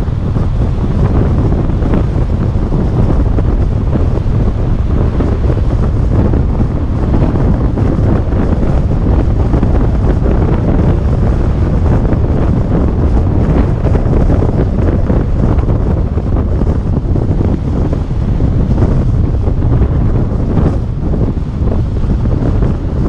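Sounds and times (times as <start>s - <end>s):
car road and tyre noise: 0.0s - 23.0s
wind rumbling on microphone: 0.0s - 23.0s.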